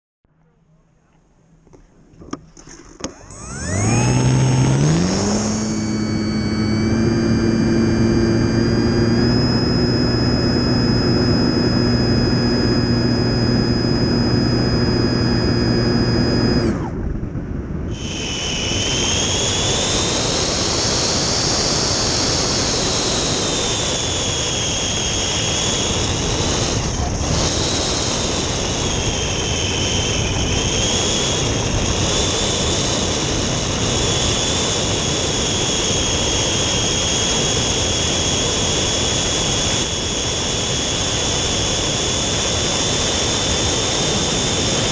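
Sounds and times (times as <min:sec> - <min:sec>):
model airplane motor buzzing: 0:02.2 - 0:17.1, 0:17.8 - 0:44.9.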